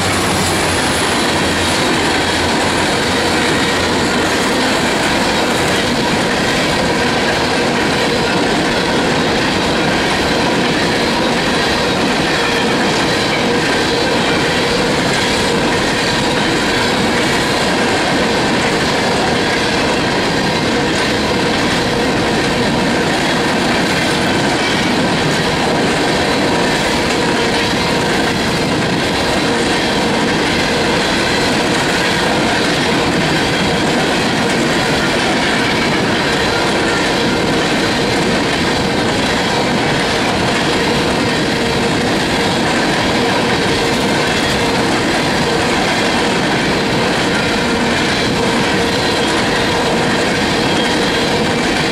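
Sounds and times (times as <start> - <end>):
freight train rolling past: 0.0 - 51.9
wheels clacking over rail joints: 0.0 - 51.9.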